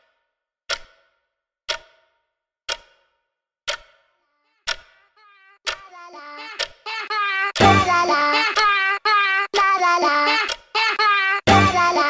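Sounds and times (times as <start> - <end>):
clock ticks: 0.7 - 12.0.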